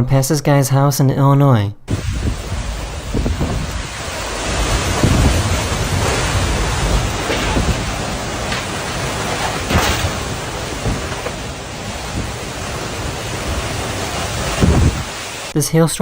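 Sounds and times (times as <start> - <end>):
low rumble: 1.9 - 15.2
rain: 1.9 - 15.6
tornado winds rushing: 1.9 - 15.6.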